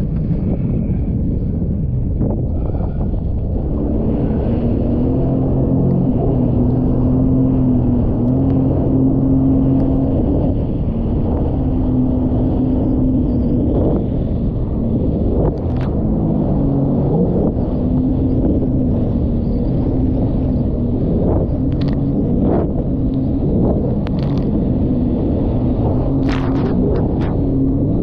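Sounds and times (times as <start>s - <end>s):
jet ski engine running: 0.0s - 28.0s
wind and water rushing: 0.0s - 28.0s.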